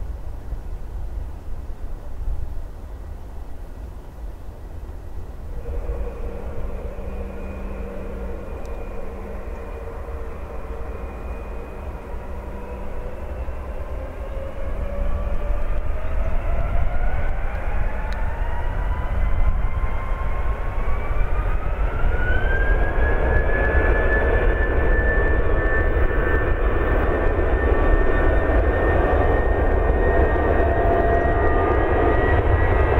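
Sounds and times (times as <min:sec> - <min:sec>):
jet engines whining and spooling up: 0:04.4 - 0:32.9.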